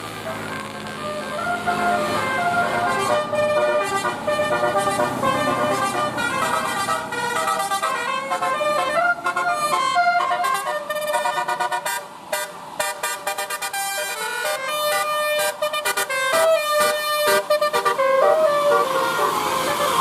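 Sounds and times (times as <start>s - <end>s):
multi-tone bus horn melody: 0.0s - 20.0s.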